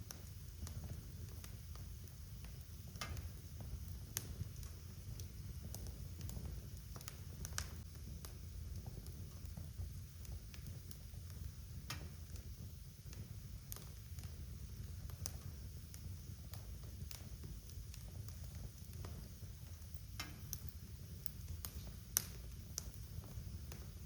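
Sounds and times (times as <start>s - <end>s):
fire crackling and popping: 0.0s - 24.0s
fire rumbling: 0.0s - 24.0s.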